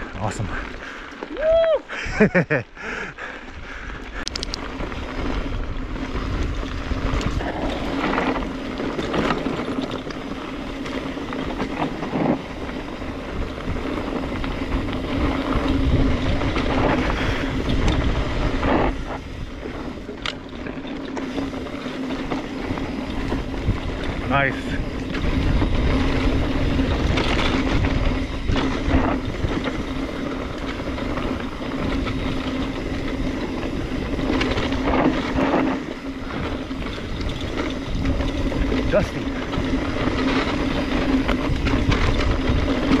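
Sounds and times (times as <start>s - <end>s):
bike tyres on dirt: 0.0s - 43.0s
rattles over bumps: 2.1s - 43.0s
wind buffeting camera: 3.2s - 43.0s.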